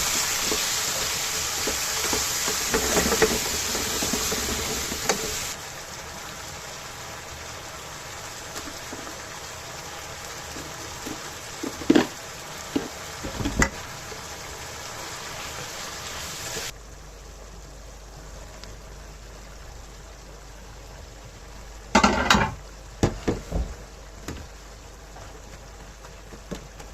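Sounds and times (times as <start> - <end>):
pan hissing on stove: 0.0 - 16.8, 18.4 - 26.9.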